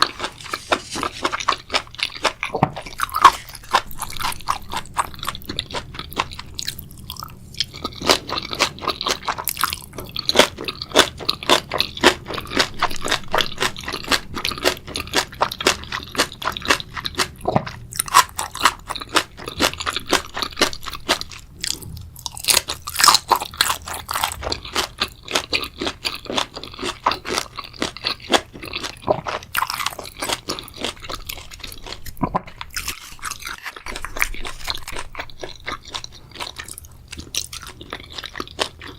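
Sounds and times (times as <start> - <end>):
chewing with wet crunches: 0.0 - 38.9.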